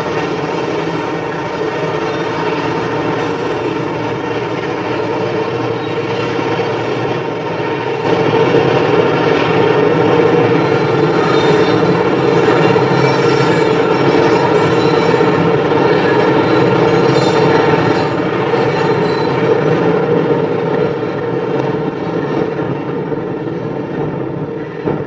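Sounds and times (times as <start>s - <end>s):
freight train rumbling on bridge: 0.0s - 25.0s.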